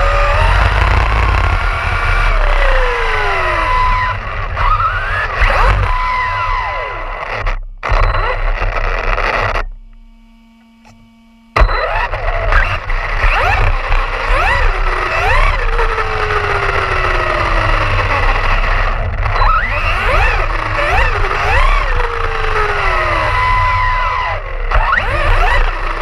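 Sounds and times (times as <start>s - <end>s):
electric motor whine: 0.0s - 26.0s
faint steady hum: 0.0s - 26.0s.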